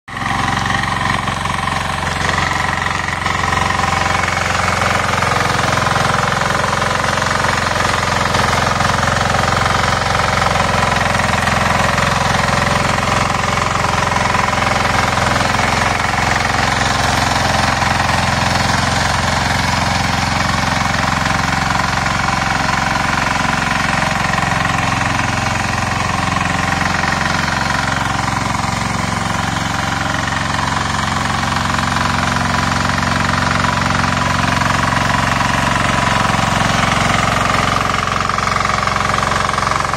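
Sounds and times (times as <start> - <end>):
power weeder engine running: 0.0 - 39.9
rotor tilling wet mud: 0.1 - 39.9.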